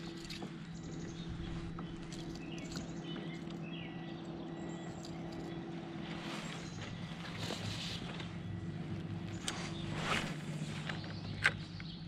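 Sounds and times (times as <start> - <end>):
motorboat engine humming: 0.0 - 12.0.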